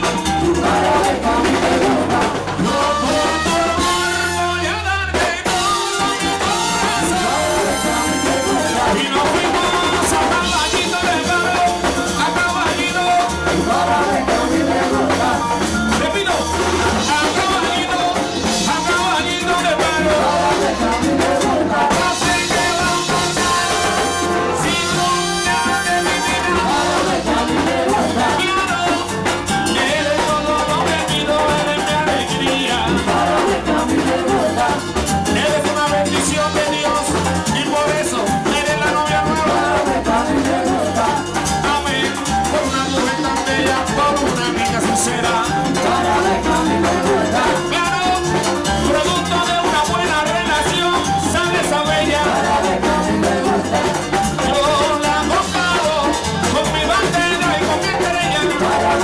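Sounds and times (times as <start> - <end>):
hand drums and drum kit: 0.0 - 59.0
lead singer on microphone: 0.0 - 59.0.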